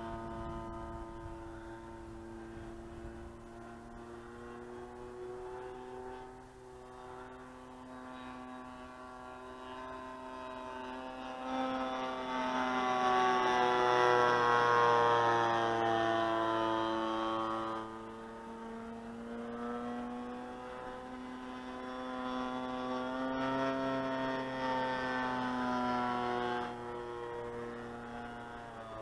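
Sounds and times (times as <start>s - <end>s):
model plane engine passing: 0.0s - 29.0s.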